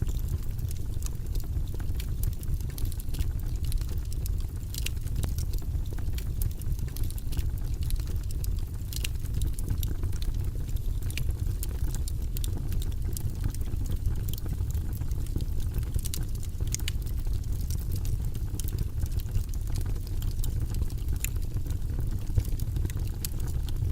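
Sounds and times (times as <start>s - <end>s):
fire crackling in fireplace: 0.0s - 23.9s.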